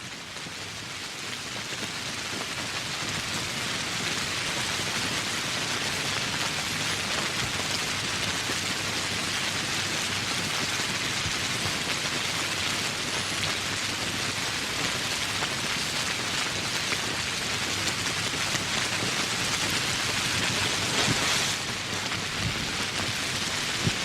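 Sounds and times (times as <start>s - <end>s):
rain falling on foliage: 0.0s - 24.0s.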